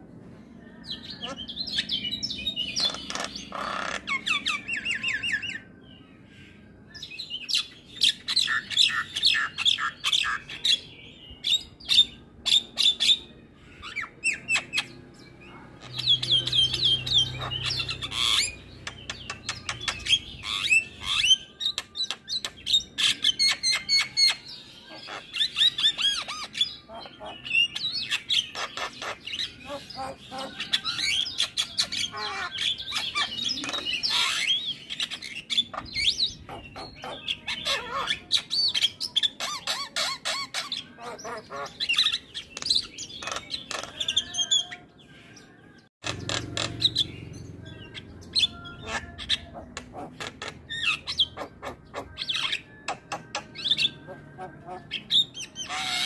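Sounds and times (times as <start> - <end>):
myna bird chattering song: 0.9 - 5.8, 6.5 - 44.9, 46.0 - 56.0.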